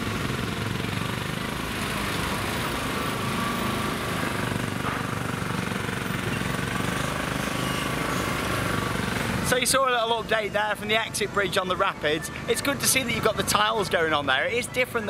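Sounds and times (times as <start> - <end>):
rattly engine running: 0.0 - 15.0.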